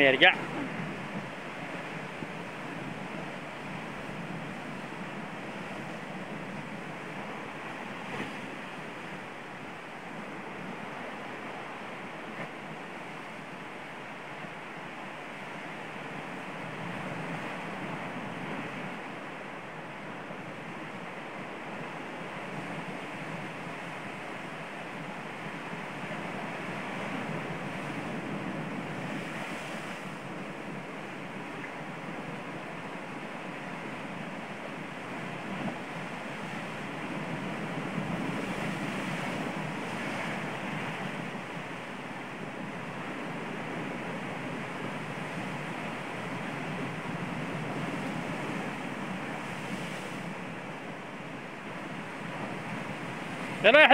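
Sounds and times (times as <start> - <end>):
waves breaking on rocky shore: 0.0 - 53.9.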